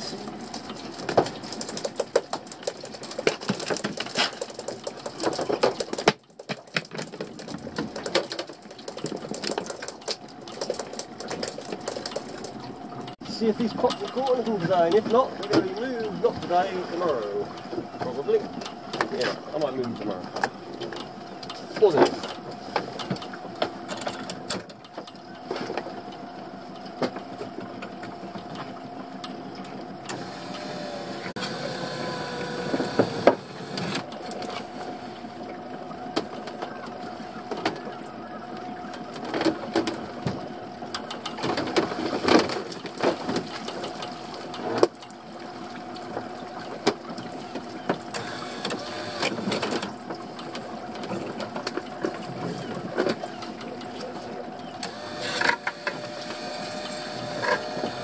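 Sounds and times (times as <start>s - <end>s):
knocks and clatter of gear: 0.3s - 30.7s, 38.5s - 56.0s
pot hauler humming: 9.9s - 58.0s.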